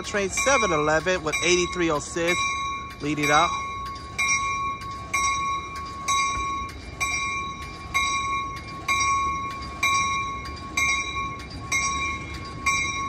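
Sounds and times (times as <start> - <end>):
train bell ringing: 0.0 - 13.0
train rumble: 0.0 - 13.0.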